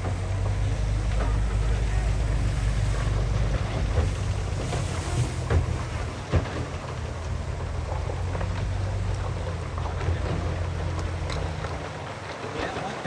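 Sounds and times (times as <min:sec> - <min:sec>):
heavy machinery diesel engine droning: 0:00.0 - 0:13.0.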